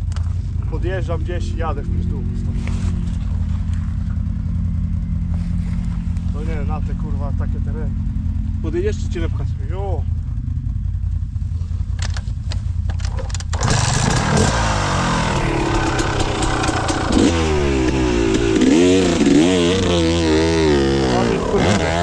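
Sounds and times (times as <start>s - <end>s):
quad bike engine revving: 1.2s - 11.0s, 12.9s - 22.0s.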